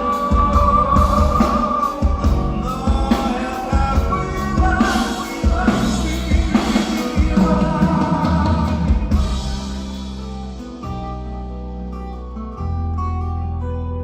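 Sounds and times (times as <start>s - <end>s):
drum kit: 0.0s - 11.5s
bass: 0.0s - 14.0s.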